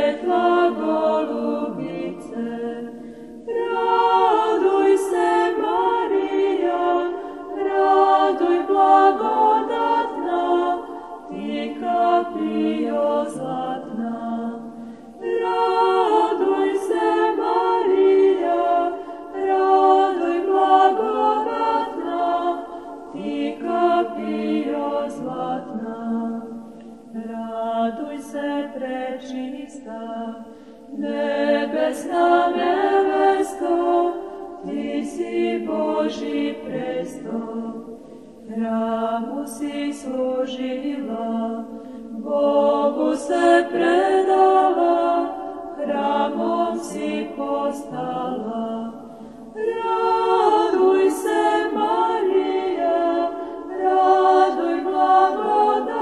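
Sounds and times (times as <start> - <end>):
choir singing slow chant: 0.0 - 56.0.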